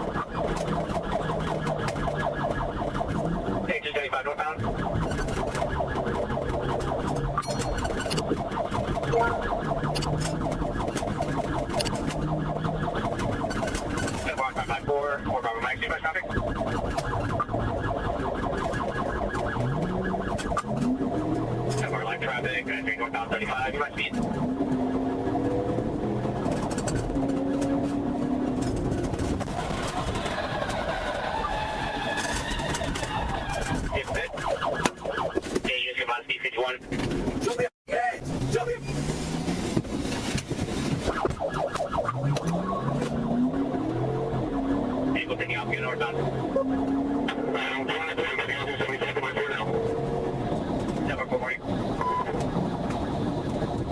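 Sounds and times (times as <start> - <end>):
police siren yelping: 0.0 - 37.0, 40.8 - 53.9
car engine and road noise: 0.0 - 53.9.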